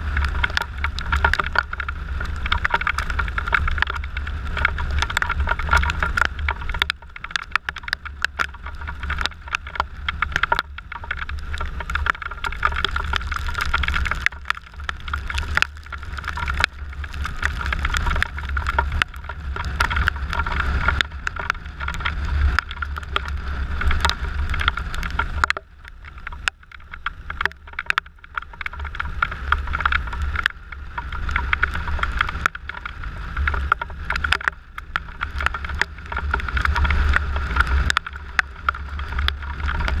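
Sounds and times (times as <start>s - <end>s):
raindrops striking camera: 0.0s - 40.0s.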